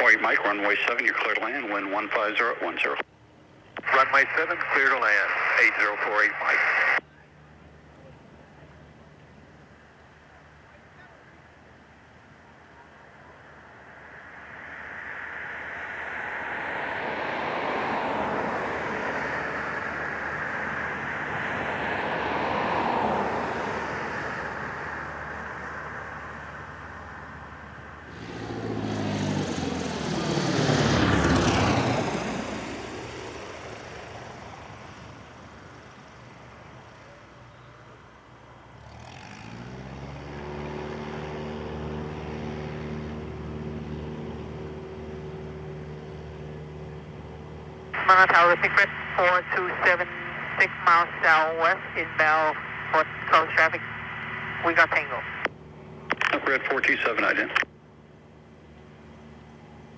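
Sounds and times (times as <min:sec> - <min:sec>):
airplane passing: 0:00.0 - 0:59.9
steady engine hum: 0:00.0 - 0:59.9.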